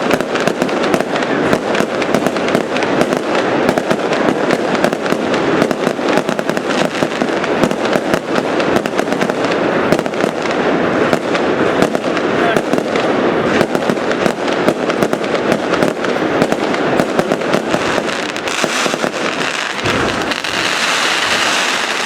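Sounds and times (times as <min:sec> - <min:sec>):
fireworks cracking and popping: 0:00.0 - 0:22.0.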